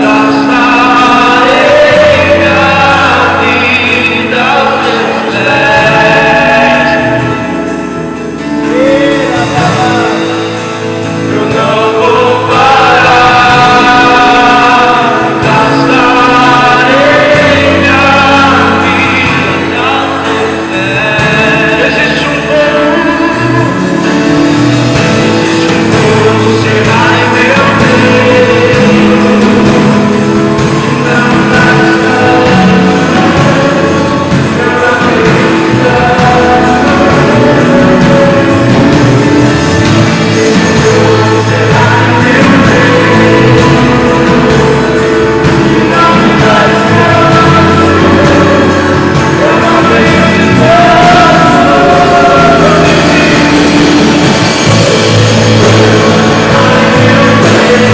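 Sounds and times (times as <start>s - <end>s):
sustained keyboard chords: 0.0s - 57.9s
voices singing: 0.0s - 57.9s
worship band playing: 0.0s - 57.9s.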